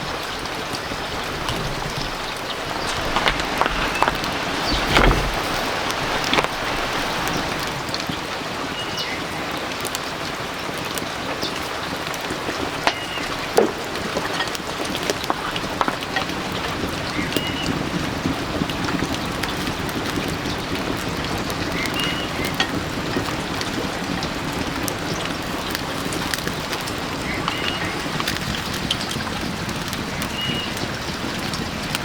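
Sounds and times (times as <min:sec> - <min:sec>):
sharp crackles: 0:00.0 - 0:32.0
stream water flowing: 0:00.0 - 0:32.0.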